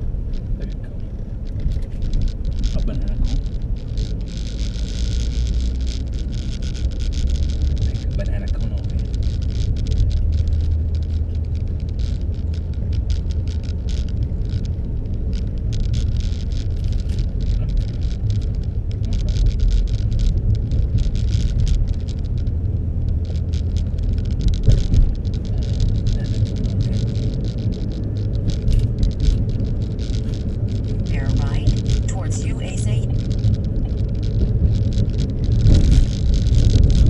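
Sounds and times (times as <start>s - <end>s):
car engine rumbling: 0.0s - 37.0s
irregular clicks and crackles: 0.0s - 37.0s.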